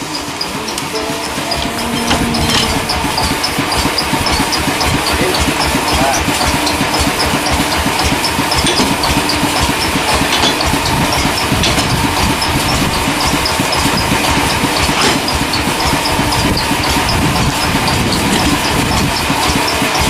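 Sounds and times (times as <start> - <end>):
engine chugging: 0.0 - 20.0
faint high ticking: 0.0 - 20.0.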